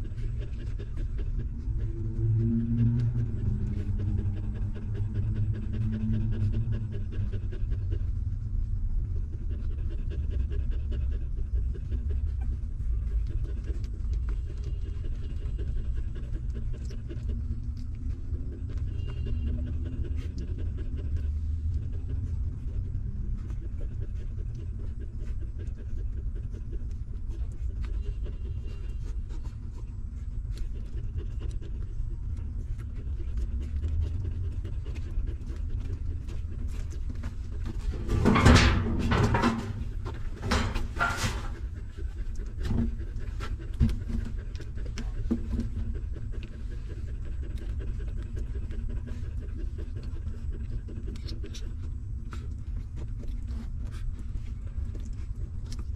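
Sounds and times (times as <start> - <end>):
dog panting rapidly: 0.0 - 55.9.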